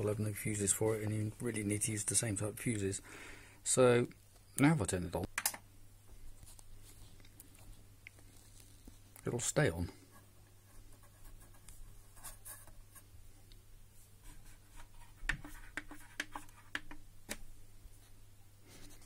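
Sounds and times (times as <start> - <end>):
faint mains hum: 0.0 - 19.0.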